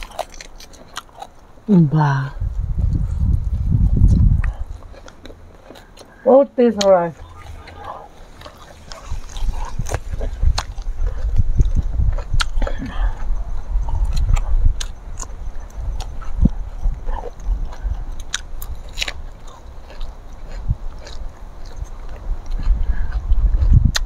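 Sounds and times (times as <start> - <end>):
crunching chewing clicks: 0.0 - 1.8, 2.5 - 24.0
wind buffeting microphone: 1.2 - 24.0.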